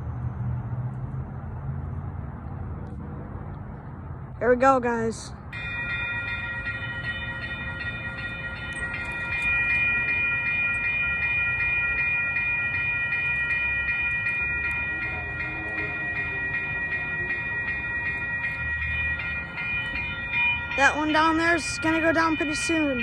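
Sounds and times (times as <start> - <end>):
train rumbling past: 0.0 - 23.0
railroad crossing bell ringing: 4.5 - 23.0.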